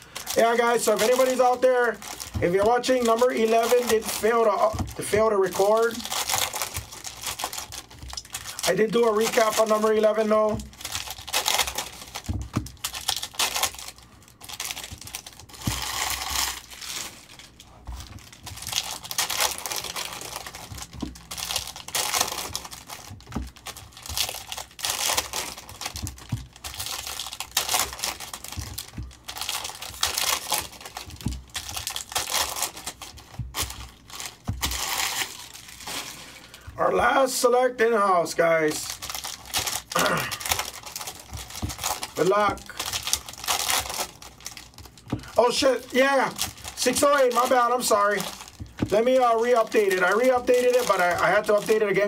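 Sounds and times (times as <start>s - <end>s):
foil wrappers crinkling and tearing: 0.0s - 52.0s.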